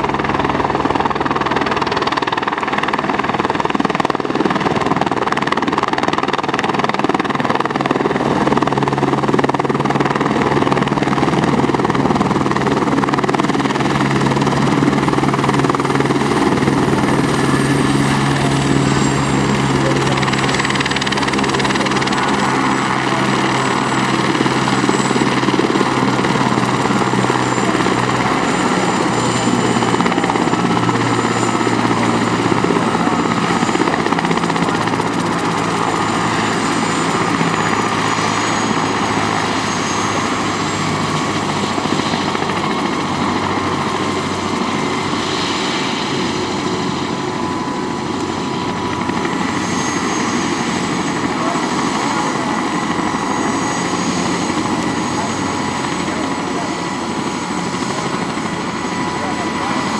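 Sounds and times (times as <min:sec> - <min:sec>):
helicopter rotor beat: 0:00.0 - 0:59.9
helicopter turbine whining: 0:00.0 - 0:59.9.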